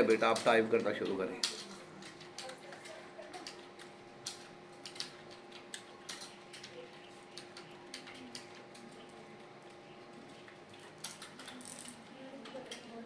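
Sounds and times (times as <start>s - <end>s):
computer keyboard typing: 0.0s - 13.0s.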